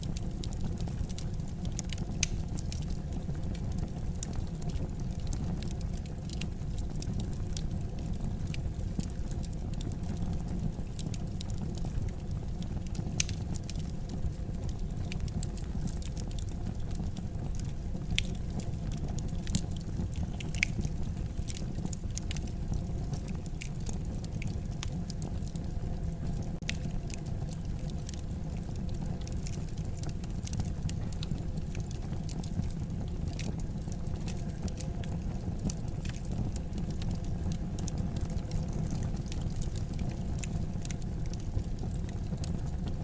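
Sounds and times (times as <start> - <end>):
fire crackling: 0.0 - 43.0
fire rumbling: 0.0 - 43.0.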